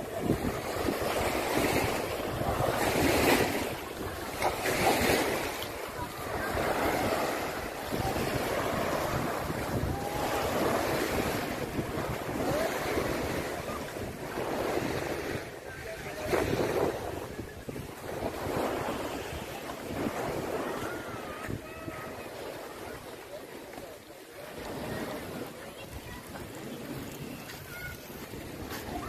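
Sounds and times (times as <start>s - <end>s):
wind buffeting microphone: 0.0s - 23.2s, 24.6s - 29.0s
small waves breaking on sand: 0.0s - 29.0s.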